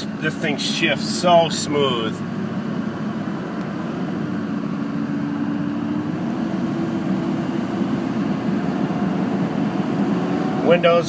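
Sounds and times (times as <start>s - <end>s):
diesel truck engine drone: 0.0s - 11.0s
road noise: 0.0s - 11.0s.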